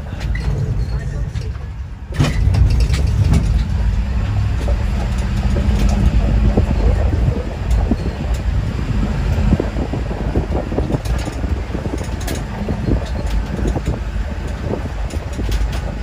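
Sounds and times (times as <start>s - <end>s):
engine and tyres rumbling: 0.0s - 16.0s
rattles and knocks from bumps: 0.1s - 16.0s.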